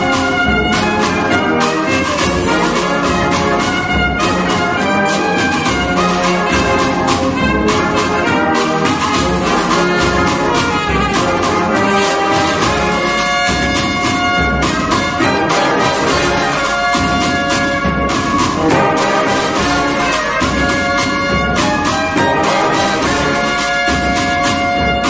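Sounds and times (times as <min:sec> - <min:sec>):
brass band playing march: 0:00.0 - 0:25.0
drums march beat: 0:00.0 - 0:25.0.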